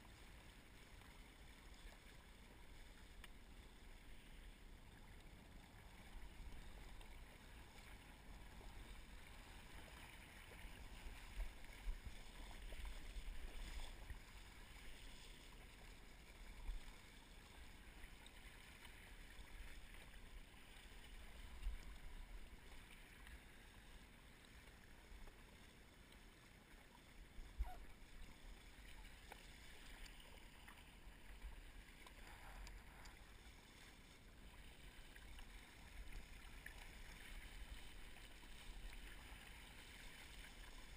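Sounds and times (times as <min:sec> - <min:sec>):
muffled rush of water: 0:00.0 - 0:40.9
wind: 0:00.0 - 0:40.9.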